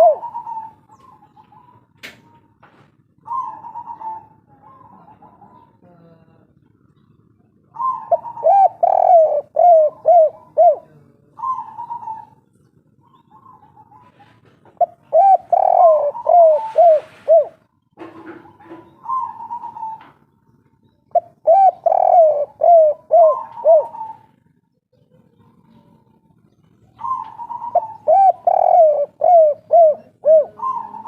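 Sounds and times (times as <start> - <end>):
dove cooing: 0.0 - 20.4, 21.1 - 31.0.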